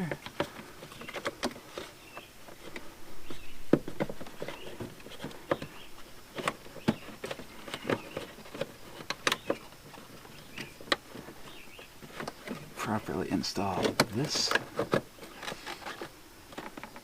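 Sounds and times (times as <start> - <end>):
clicks and knocks of hand work: 0.0 - 12.8, 13.6 - 17.0.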